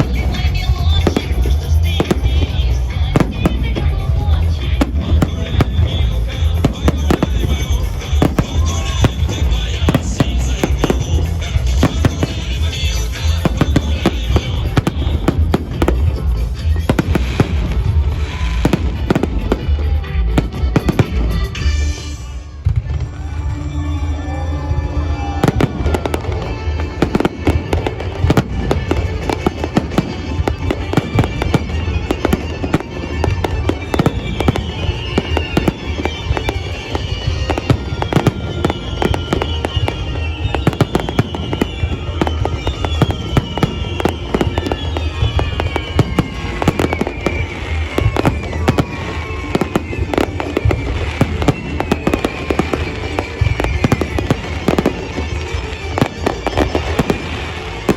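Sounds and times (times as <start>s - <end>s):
fireworks bangs and crackling: 0.0s - 57.9s
falling firework whistles: 4.8s - 23.4s, 25.0s - 57.9s.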